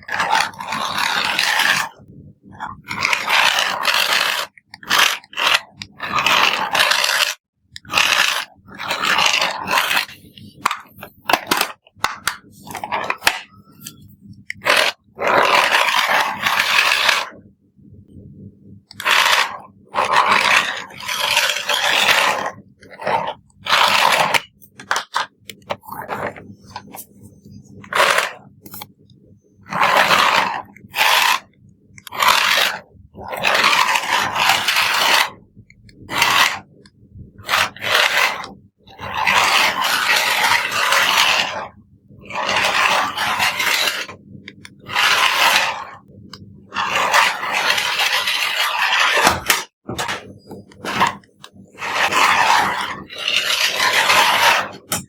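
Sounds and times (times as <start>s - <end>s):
toy car motor and wheels: 0.0s - 17.4s, 18.9s - 25.3s, 27.8s - 28.9s, 29.6s - 35.4s, 36.1s - 36.7s, 37.4s - 46.1s, 46.7s - 49.7s, 50.8s - 55.0s.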